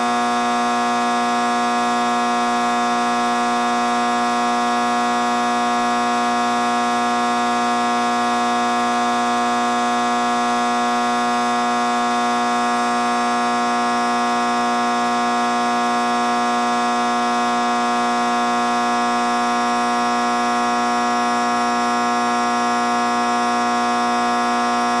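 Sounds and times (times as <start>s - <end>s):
steady buzzing tone: 0.0s - 25.0s.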